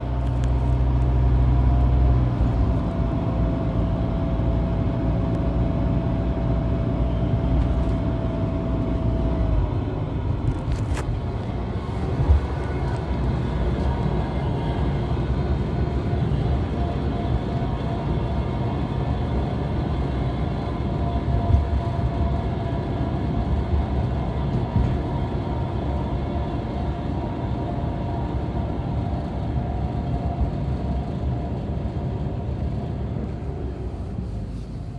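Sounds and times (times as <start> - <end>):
van cabin drone and rumble: 0.0 - 34.9
thin steady whine: 6.8 - 34.9.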